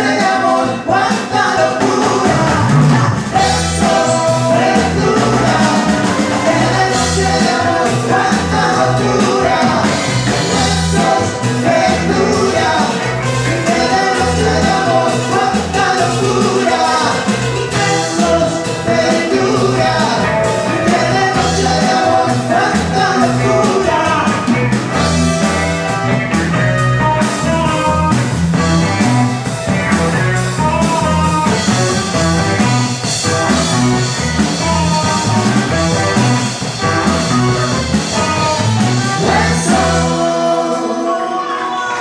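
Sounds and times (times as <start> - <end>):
bass guitar: 0.0 - 42.0
drum kit: 0.0 - 42.0
electric guitars: 0.0 - 42.0
keyboard: 0.0 - 42.0.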